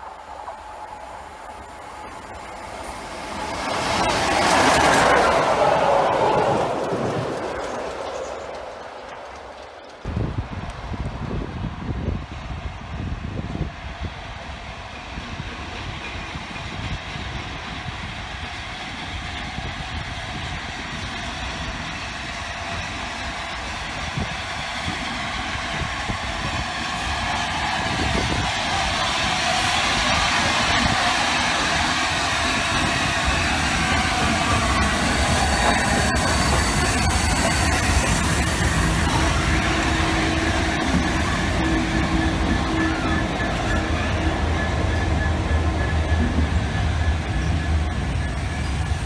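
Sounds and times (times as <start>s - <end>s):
diesel locomotive passing: 0.0s - 49.0s
steam locomotive passing: 0.0s - 49.0s.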